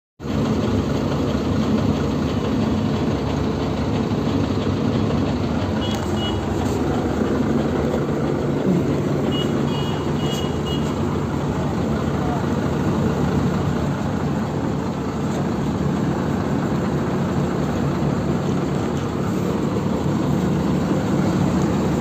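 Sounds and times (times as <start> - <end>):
diesel engine idling: 0.2 - 22.0.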